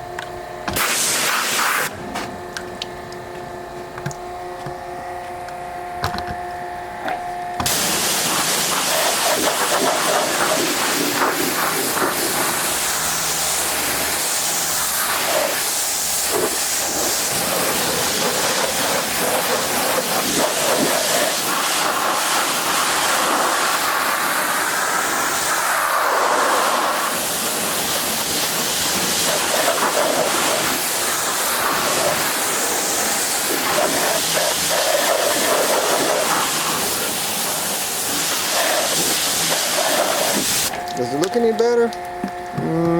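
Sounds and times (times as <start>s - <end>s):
loud steady hiss: 0.7s - 1.9s, 7.6s - 40.8s.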